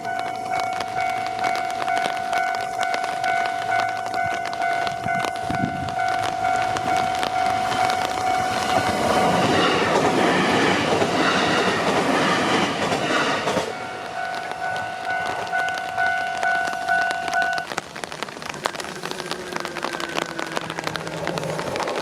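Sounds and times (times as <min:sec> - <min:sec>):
crossing warning bell ringing: 0:00.0 - 0:17.8
train wheels rushing on rails: 0:00.0 - 0:22.0.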